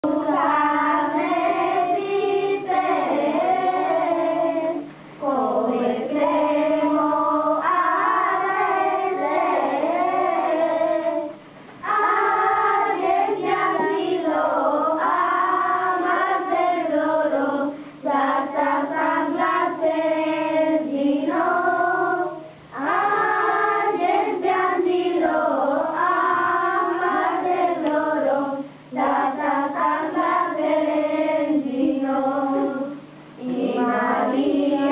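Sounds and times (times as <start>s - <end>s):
children singing a carol: 0.0s - 34.9s.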